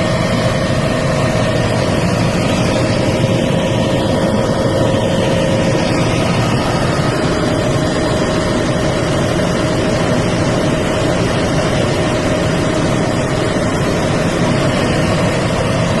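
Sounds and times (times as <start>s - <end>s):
helicopter engine and rotor: 0.0s - 16.0s
steady whine: 0.0s - 16.0s.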